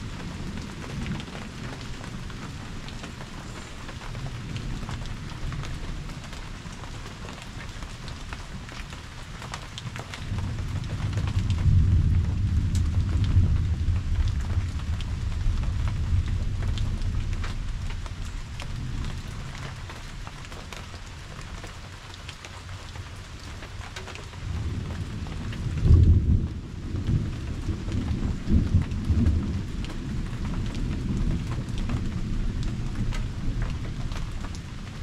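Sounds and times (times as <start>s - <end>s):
rumble of thunder: 0.0s - 21.7s, 23.3s - 35.0s
raindrops ticking close by: 0.0s - 35.0s
steady rain: 0.0s - 35.0s.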